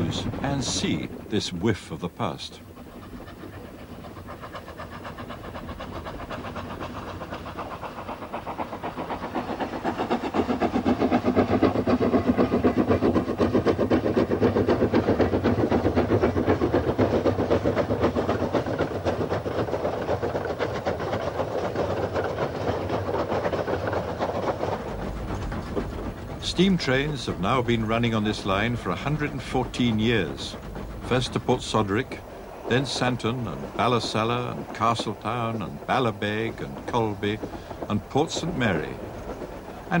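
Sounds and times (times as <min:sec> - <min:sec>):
steam locomotive exhaust beats: 0:00.0 - 0:40.0
running gear clatter: 0:02.8 - 0:40.0.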